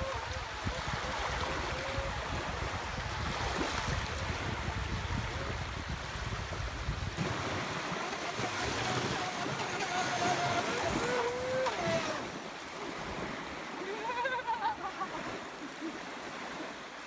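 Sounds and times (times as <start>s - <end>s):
wind rumbling on microphone: 0.0s - 15.4s
small waves breaking on shore: 0.0s - 17.0s.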